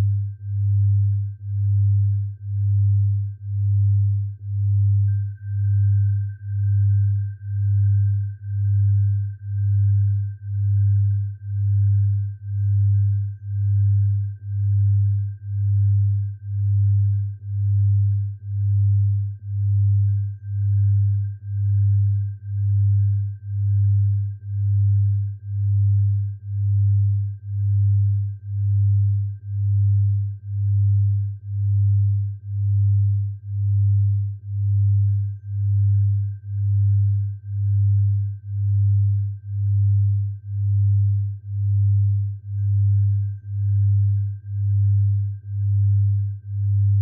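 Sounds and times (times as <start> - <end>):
faint steady high tone: 0.0 - 47.0
low pulsing pure tone: 0.0 - 47.0.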